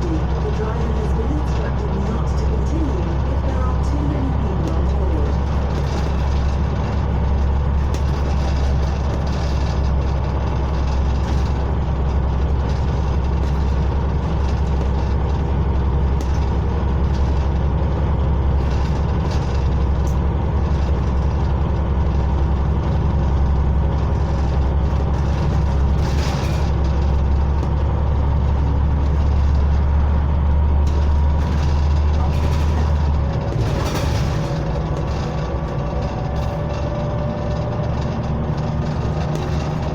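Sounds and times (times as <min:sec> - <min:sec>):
body rattles and clicks: 0:00.0 - 0:39.9
bus engine drone: 0:00.0 - 0:39.9.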